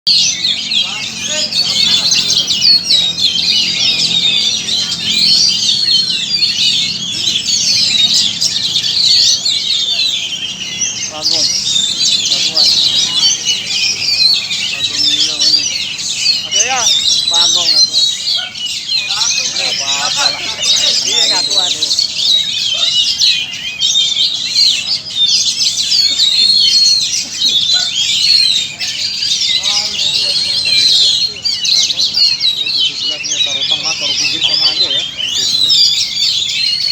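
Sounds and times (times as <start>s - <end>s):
birds singing in chorus: 0.0s - 36.9s.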